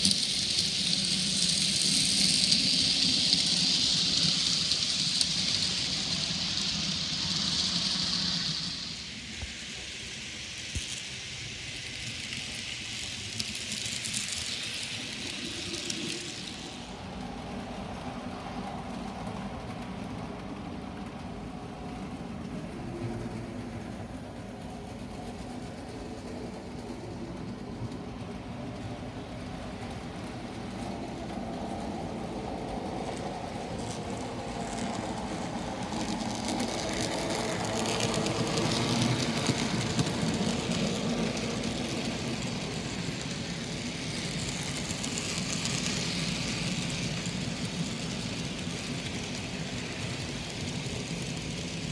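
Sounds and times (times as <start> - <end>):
wheels clicking on rail: 0.0 - 24.0, 24.6 - 51.9
model train humming: 0.0 - 51.9.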